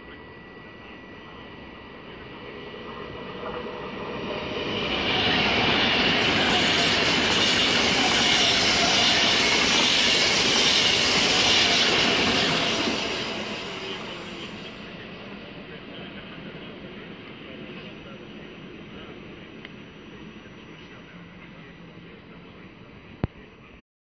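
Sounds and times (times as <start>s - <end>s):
train wheels on rails: 1.0s - 22.7s.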